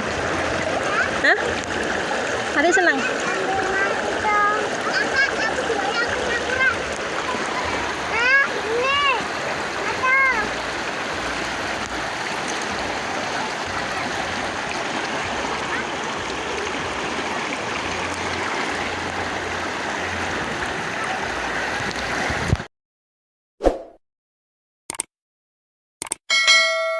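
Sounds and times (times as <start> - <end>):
river water flowing: 0.0 - 22.5.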